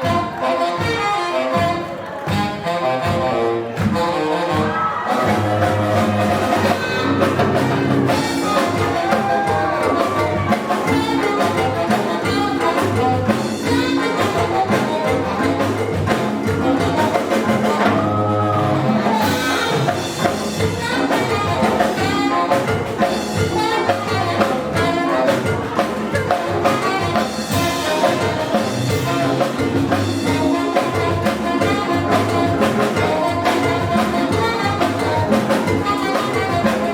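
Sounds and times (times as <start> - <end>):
brass jazz music: 0.0 - 36.9.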